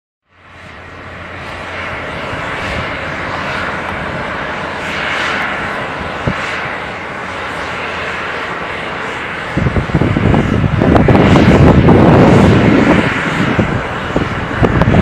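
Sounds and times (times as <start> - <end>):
jet engines rushing: 0.3 - 15.0.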